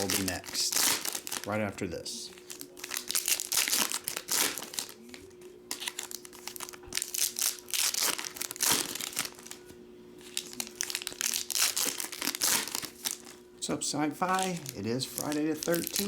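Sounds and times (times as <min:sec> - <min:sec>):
card pack wrappers crinkling: 0:00.0 - 0:09.6, 0:10.2 - 0:13.4, 0:14.1 - 0:16.0.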